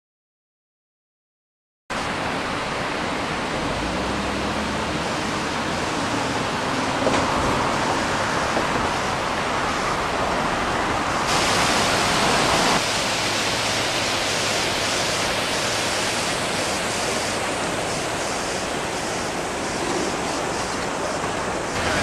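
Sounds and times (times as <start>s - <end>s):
river water rushing over dam: 1.9s - 22.0s.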